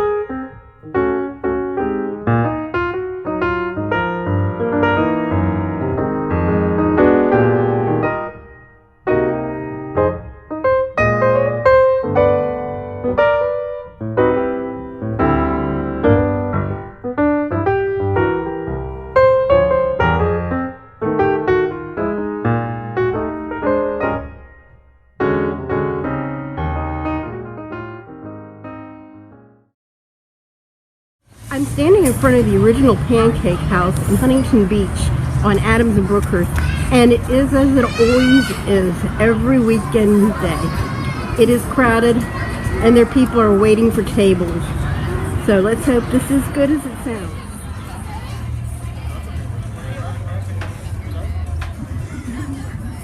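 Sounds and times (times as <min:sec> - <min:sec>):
piano melody: 0:00.0 - 0:29.7, 0:31.3 - 0:49.7.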